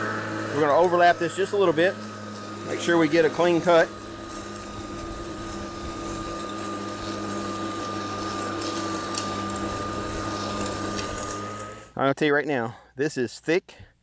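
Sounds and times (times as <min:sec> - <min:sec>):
lawn mower motor hum: 0:00.0 - 0:12.0
thin high whine: 0:00.0 - 0:12.0.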